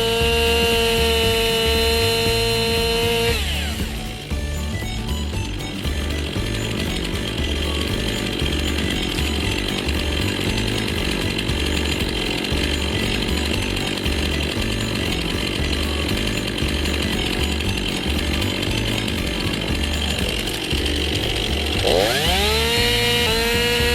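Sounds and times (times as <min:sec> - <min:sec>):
chainsaw cutting log: 0:00.0 - 0:23.9.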